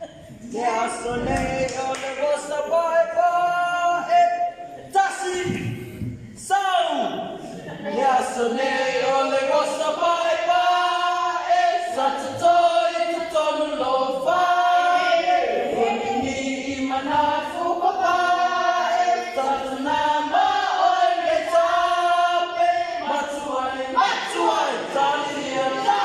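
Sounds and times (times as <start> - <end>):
group of voices singing: 0.0 - 5.7, 7.4 - 26.0.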